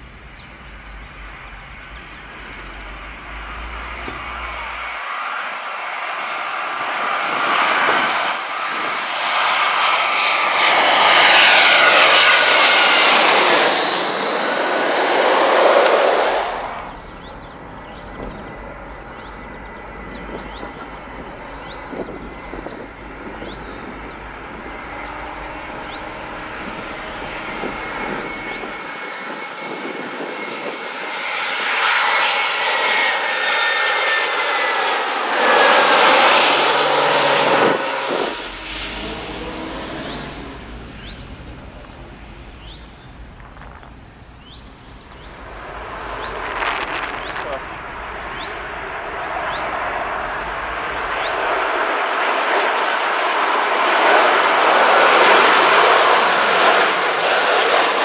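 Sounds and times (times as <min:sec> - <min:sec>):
jet airliner passing overhead: 0:00.0 - 0:58.0.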